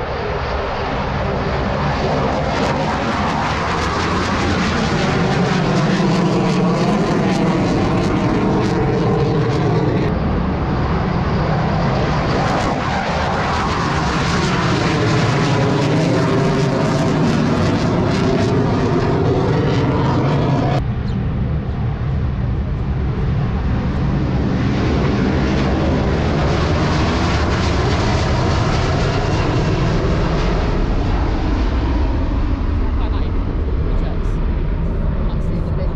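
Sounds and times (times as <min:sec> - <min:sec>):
jet engines at takeoff: 0:00.0 - 0:35.9.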